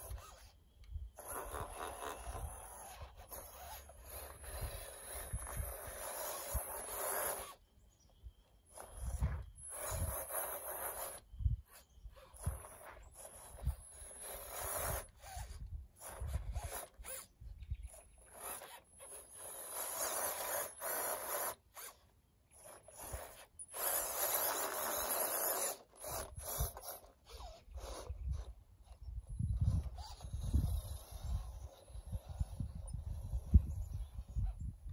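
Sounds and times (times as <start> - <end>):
faint high whine: 0.0 - 34.8
rc car motor and gears whirring: 0.0 - 34.9.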